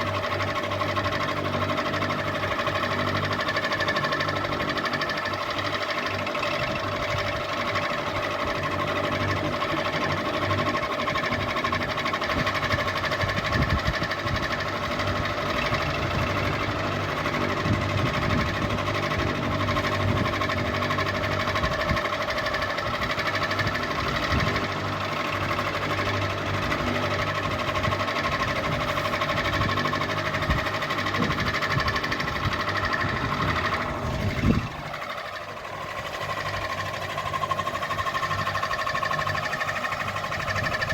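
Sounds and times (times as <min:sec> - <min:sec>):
ceiling fan motor hum: 0:00.0 - 0:40.9.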